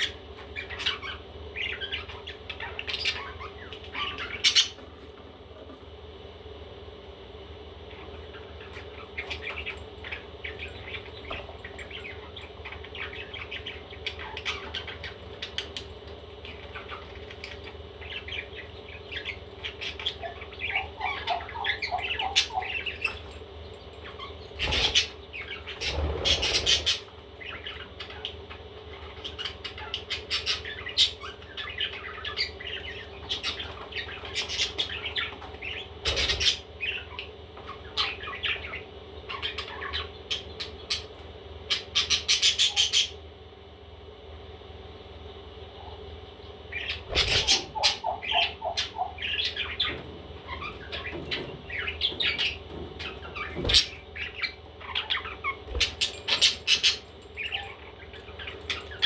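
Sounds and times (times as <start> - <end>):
baby parrots chirping and squawking: 0.0 - 4.9, 7.9 - 15.8, 16.5 - 23.4, 24.0 - 41.1, 41.7 - 43.2, 46.7 - 59.0.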